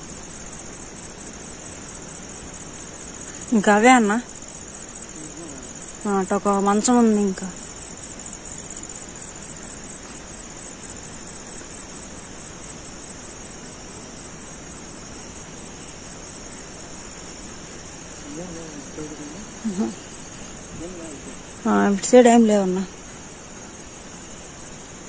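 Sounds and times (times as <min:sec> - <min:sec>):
background hiss: 0:00.0 - 0:25.0
crickets chirring: 0:00.0 - 0:25.0.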